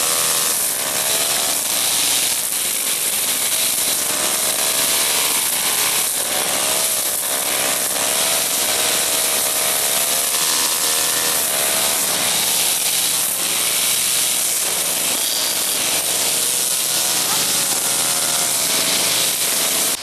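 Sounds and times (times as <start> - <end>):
brush cutter cutting grass: 0.0 - 20.0.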